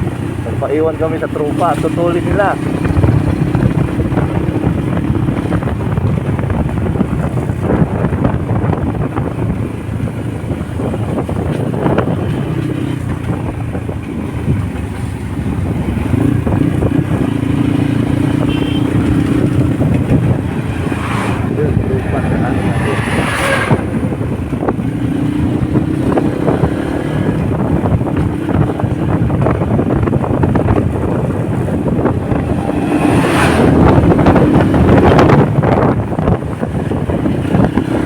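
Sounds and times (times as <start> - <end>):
motorcycle engine running: 0.0 - 38.0
rushing road noise: 0.0 - 38.0.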